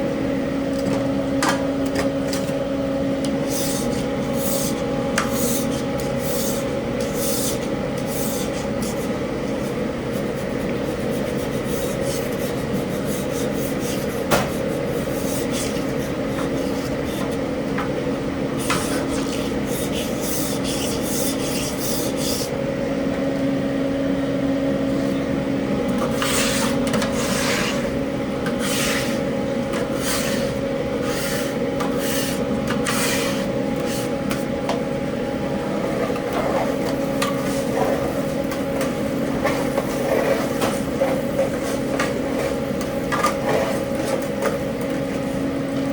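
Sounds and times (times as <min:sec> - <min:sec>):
kitchen equipment humming: 0:00.0 - 0:45.9.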